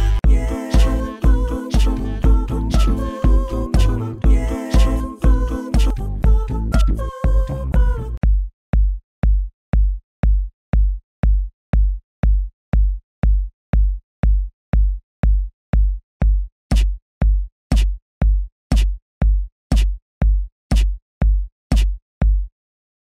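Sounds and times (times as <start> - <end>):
drum machine kick: 0.0 - 22.5.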